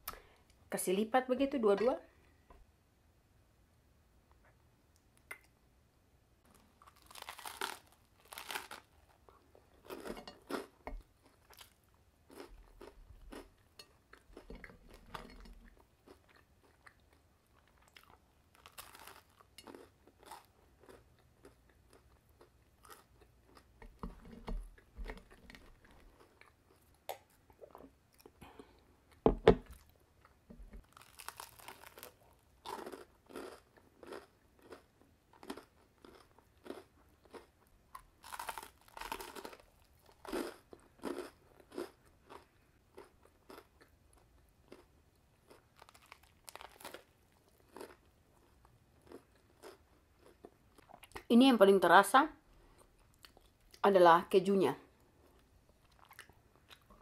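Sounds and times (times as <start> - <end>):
chewing crunchy bread: 6.5 - 51.3, 52.6 - 53.8, 55.0 - 57.0.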